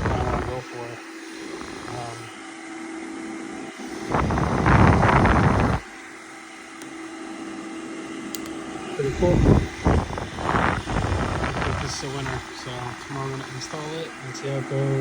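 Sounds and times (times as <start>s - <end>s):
ventilation fan humming: 0.0s - 15.0s.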